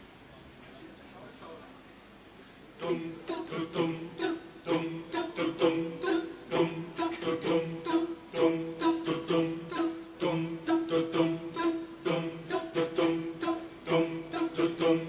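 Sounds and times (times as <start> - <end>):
choir singing a cappella: 2.8 - 15.0.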